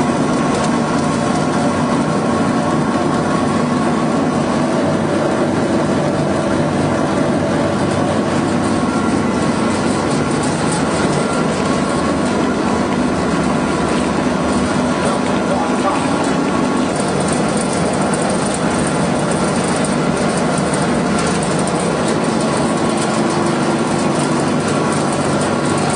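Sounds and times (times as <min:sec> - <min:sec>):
machinery running: 0:00.0 - 0:25.9.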